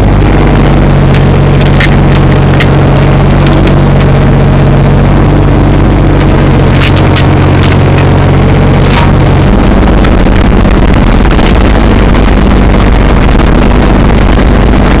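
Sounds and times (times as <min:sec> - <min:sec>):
excavator diesel engine running: 0:00.0 - 0:15.0
excavator tracks moving: 0:00.0 - 0:15.0.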